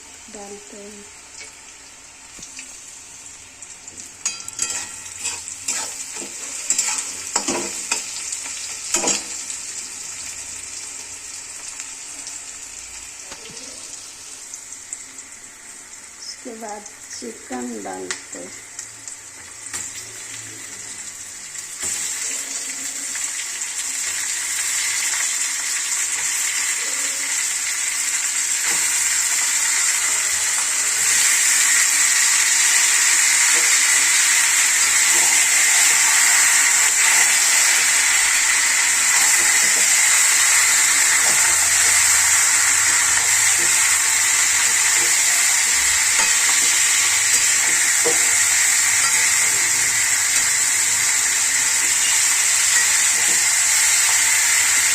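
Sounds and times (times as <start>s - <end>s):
chicken sizzling in hot oil: 0.0s - 54.9s.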